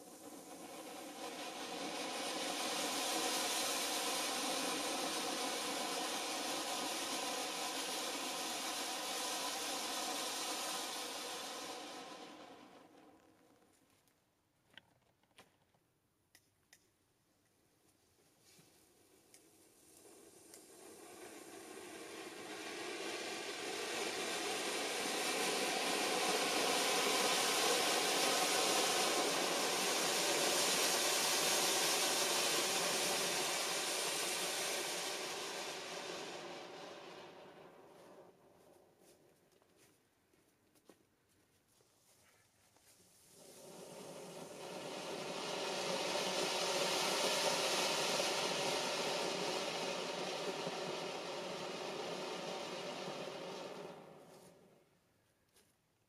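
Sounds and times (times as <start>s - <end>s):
fireworks fountains hissing: 0.0s - 14.2s, 17.8s - 40.0s, 42.0s - 55.1s.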